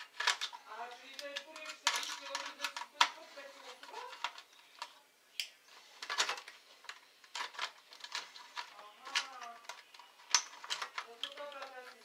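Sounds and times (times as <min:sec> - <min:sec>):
screwdriver turning: 0:00.0 - 0:05.0, 0:06.0 - 0:12.0.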